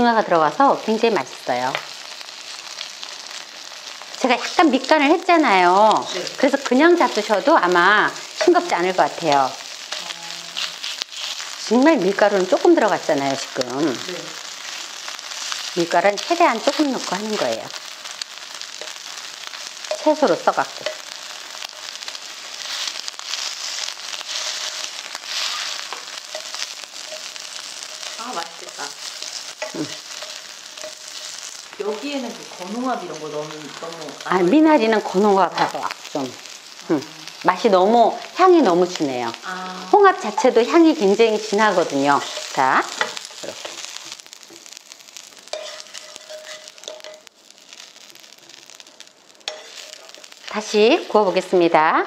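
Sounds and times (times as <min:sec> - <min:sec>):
pancakes sizzling in oil: 0:00.0 - 0:52.0.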